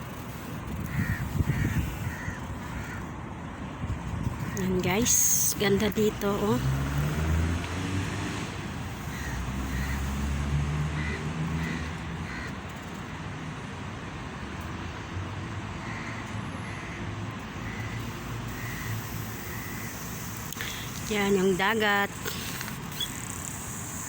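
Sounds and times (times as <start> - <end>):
vehicle engine humming: 0.0 - 14.8, 15.8 - 24.0
traffic noise: 0.0 - 24.0.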